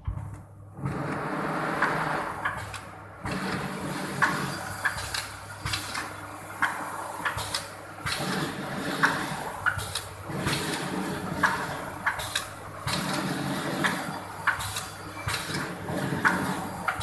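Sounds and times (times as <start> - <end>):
packing machine motor hum: 0.0 - 17.0.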